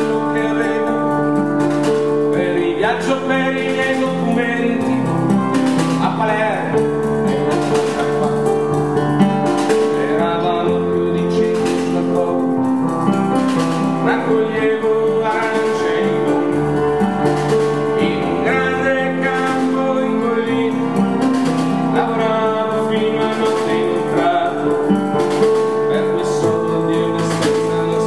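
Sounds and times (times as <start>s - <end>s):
keyboard chords: 0.0s - 28.0s
man singing: 0.0s - 28.0s.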